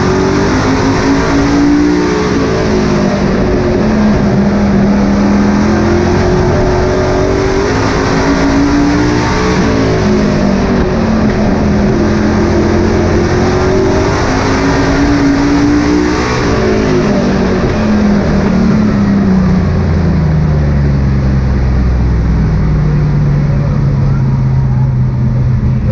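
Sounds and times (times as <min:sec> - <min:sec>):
race truck engines revving: 0:00.0 - 0:25.9.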